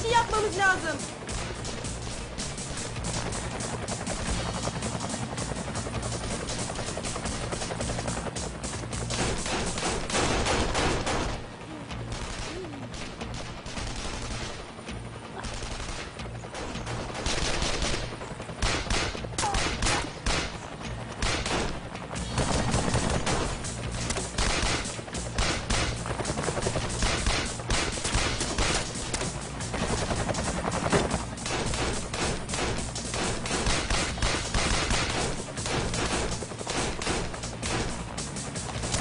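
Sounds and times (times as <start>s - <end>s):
rapid gunfire volleys: 0.0s - 39.0s.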